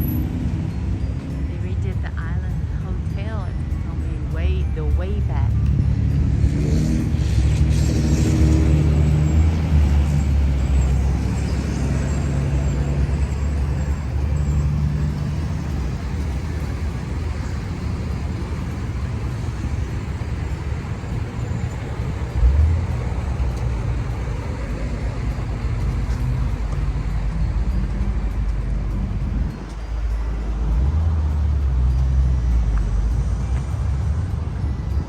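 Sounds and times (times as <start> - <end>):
car engine rumble passing: 0.0 - 35.0
road noise: 0.0 - 35.0.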